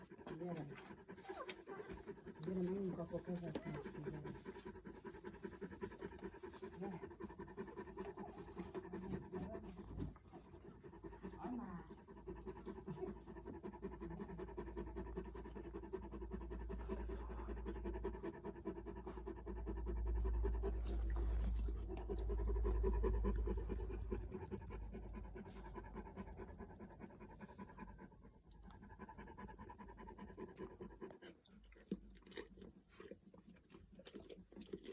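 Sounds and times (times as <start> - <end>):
puppy panting: 0.0 - 34.9.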